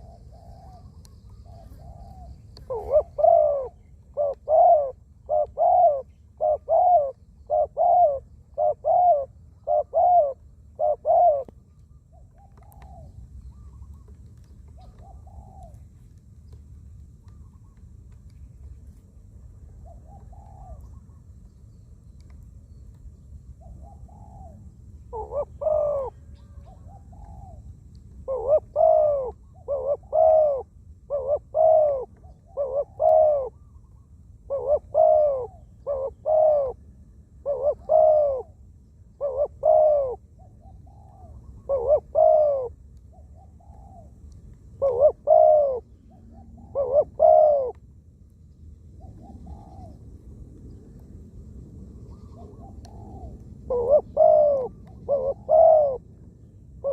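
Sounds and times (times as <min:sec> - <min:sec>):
dove cooing: 0:00.0 - 0:15.9, 0:19.6 - 0:21.2, 0:23.6 - 0:47.8, 0:49.0 - 0:50.0, 0:52.1 - 0:56.2
faint dove cooing: 0:00.0 - 0:16.2, 0:19.4 - 0:21.3, 0:23.6 - 0:47.8, 0:49.0 - 0:50.1, 0:52.1 - 0:56.9.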